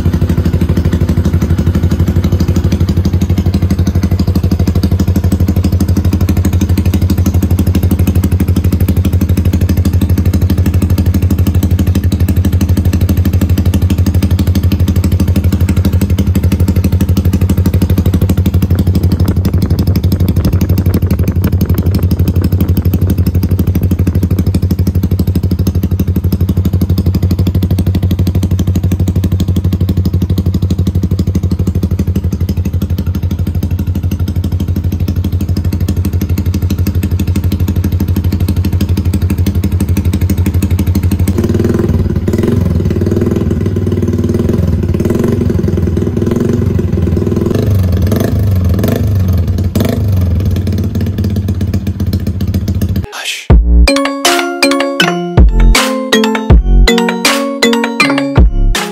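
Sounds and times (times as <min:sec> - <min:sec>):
motorcycle engine idling loudly: 0:00.0 - 0:53.0.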